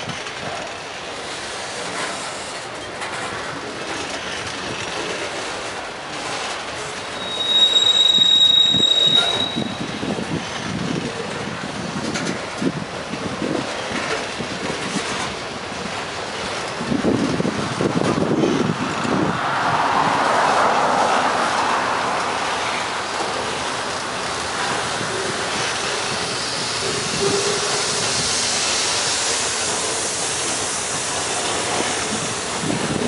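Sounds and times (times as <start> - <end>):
train wheels clattering on rails: 0.0 - 33.0.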